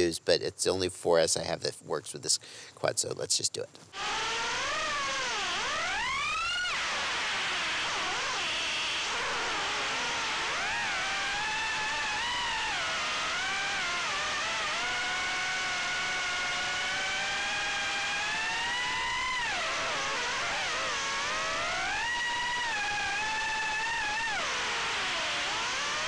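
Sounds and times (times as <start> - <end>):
drone motors whining: 4.0 - 26.0.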